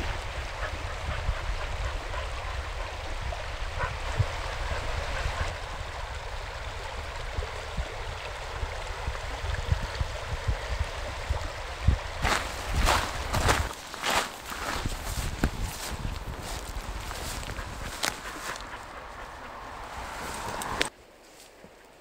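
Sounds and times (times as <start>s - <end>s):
river rushing over gravel: 2.2s - 20.9s.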